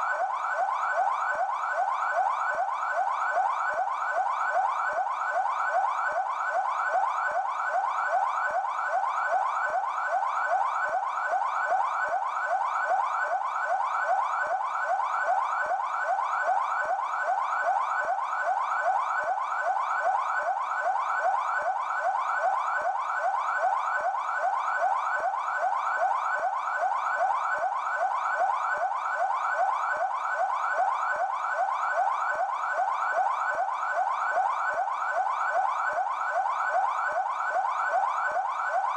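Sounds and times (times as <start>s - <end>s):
police siren yelping: 0.0s - 38.9s.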